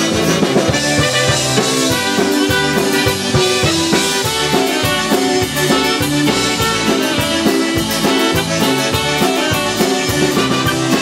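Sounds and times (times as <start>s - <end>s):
drum kit beat: 0.0s - 11.0s
tenor saxophone: 0.0s - 11.0s
trumpet: 0.0s - 11.0s.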